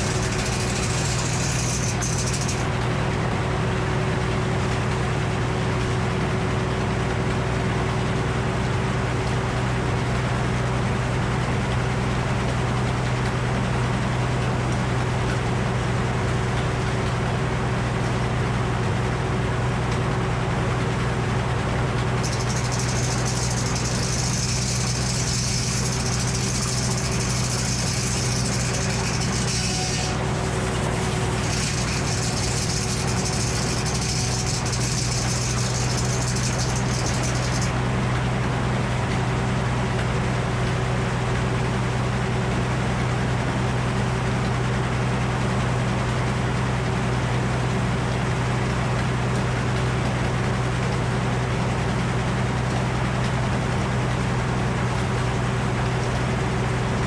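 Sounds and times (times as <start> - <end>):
sawmill power unit drone: 0.0 - 57.0.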